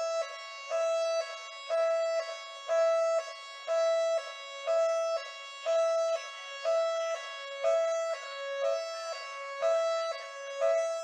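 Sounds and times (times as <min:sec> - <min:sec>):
two-tone police siren: 0:00.0 - 0:11.0.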